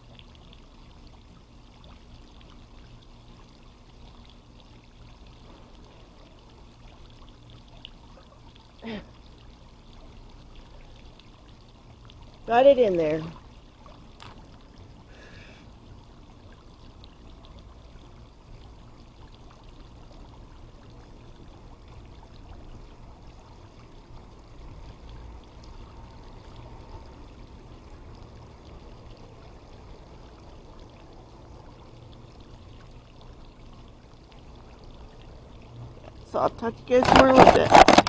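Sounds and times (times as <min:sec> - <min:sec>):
pool water sloshing and trickling: 0:00.0 - 0:38.0
small water splashes: 0:00.0 - 0:38.0.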